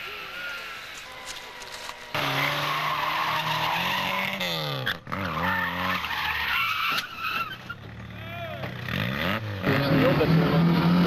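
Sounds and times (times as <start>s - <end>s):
tyres skidding: 0.0s - 11.0s
rally car engine revving: 2.1s - 11.0s.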